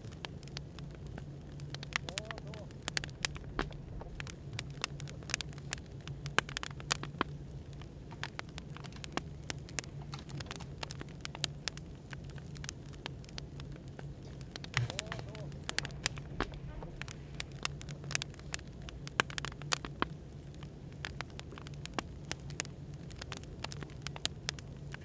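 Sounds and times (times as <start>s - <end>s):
low background hum: 0.0s - 25.0s
wood fire crackling: 0.0s - 25.0s.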